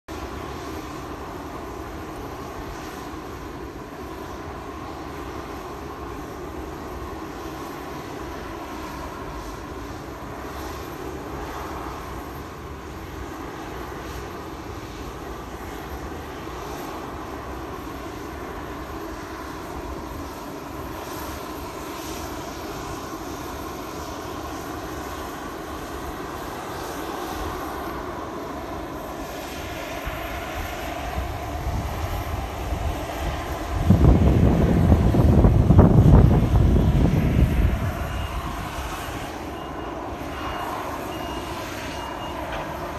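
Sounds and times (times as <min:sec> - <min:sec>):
distant aircraft engines droning: 0:00.1 - 0:42.9.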